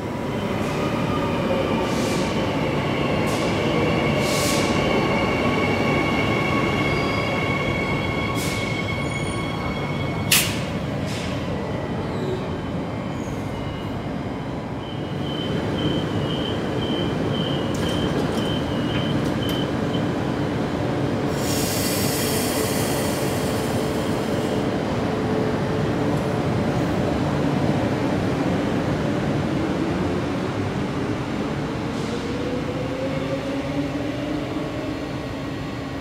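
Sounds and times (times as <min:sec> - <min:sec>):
electric train rumbling: 0:00.0 - 0:36.0.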